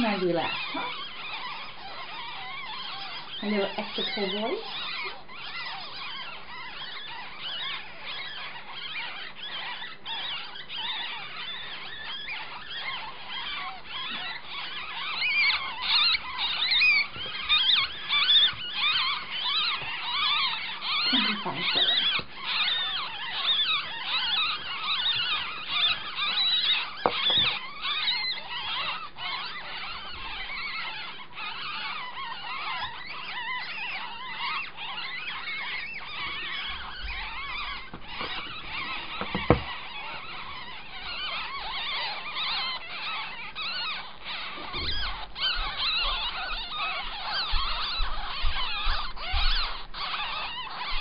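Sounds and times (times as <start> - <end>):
young animals squeaking: 0.0 - 51.0.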